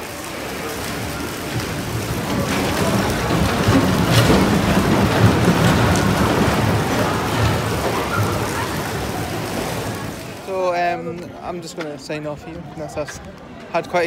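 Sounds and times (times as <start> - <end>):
roller coaster wheels rumbling: 0.0 - 11.8.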